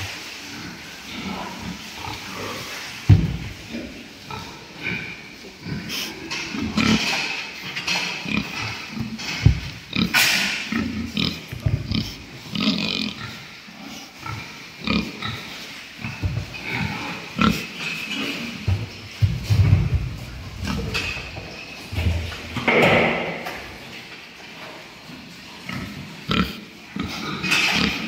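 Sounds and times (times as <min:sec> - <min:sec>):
pigs grunting: 0:00.0 - 0:23.8, 0:25.6 - 0:28.0.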